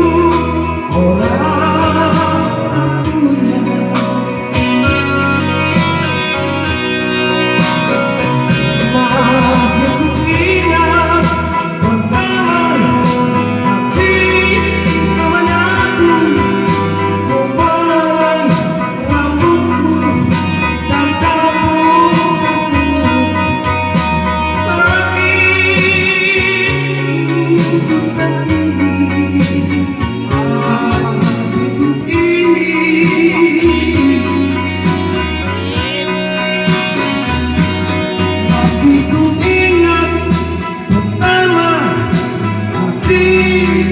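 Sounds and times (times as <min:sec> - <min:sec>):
guitar and bass accompaniment: 0:00.0 - 0:43.9
person singing: 0:00.0 - 0:43.9.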